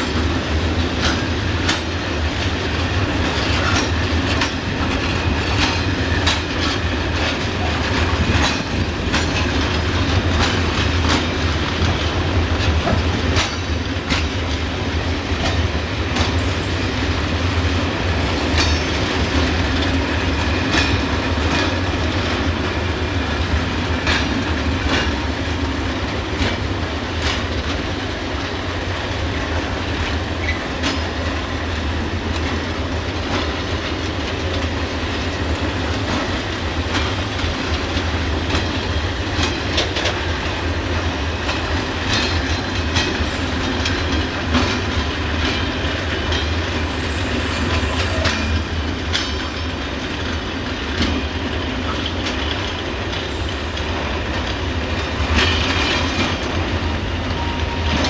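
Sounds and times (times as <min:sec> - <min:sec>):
train wheels clicking over rail joints: 0:00.0 - 0:58.0.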